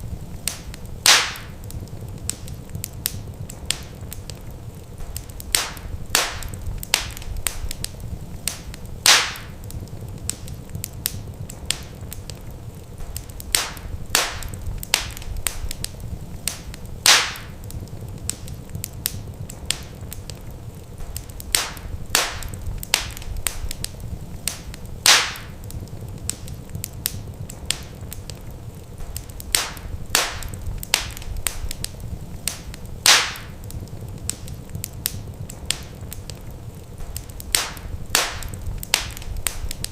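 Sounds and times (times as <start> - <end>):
low steady rumble: 0.0 - 39.9
wood fire crackling: 0.0 - 39.9.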